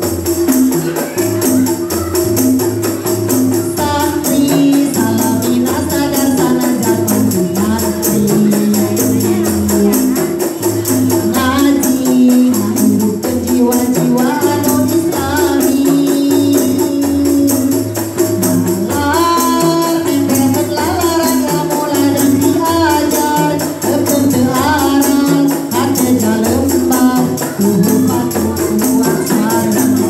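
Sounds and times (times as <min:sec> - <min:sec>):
frame drums: 0:00.0 - 0:30.0
tambourine jingles: 0:00.0 - 0:30.0
women singing devotional melody: 0:03.5 - 0:30.0.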